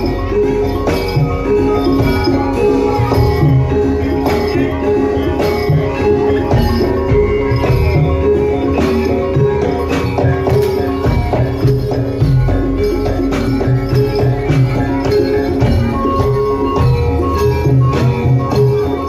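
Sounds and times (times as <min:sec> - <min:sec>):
gamelan ensemble playing: 0:00.0 - 0:19.0.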